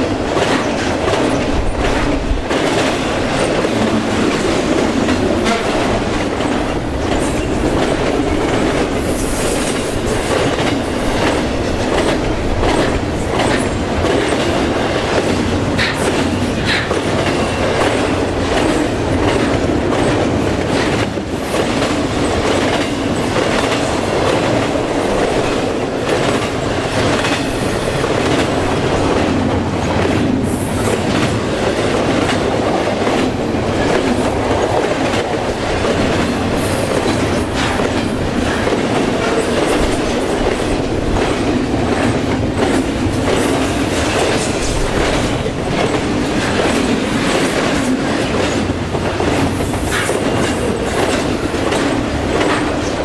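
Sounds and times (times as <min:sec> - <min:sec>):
clickety-clack over rail joints: 0:00.0 - 0:53.0
train wheels rumbling on rails: 0:00.0 - 0:53.0.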